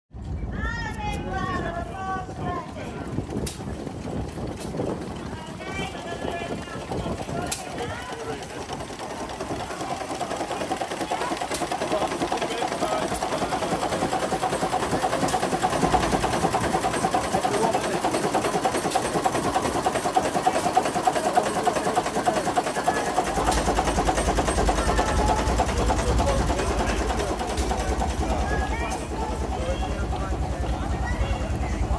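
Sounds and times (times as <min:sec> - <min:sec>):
marine engine clattering: 0:00.1 - 0:31.9.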